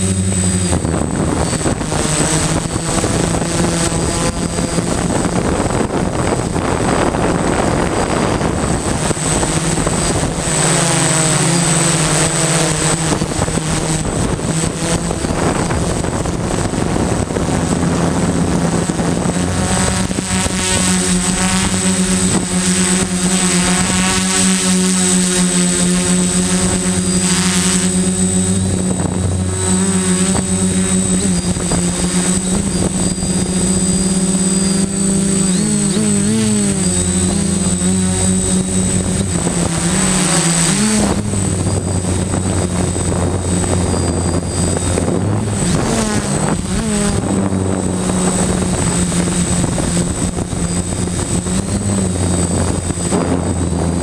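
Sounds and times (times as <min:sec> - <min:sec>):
drone motors buzzing whine: 0:00.0 - 0:54.0.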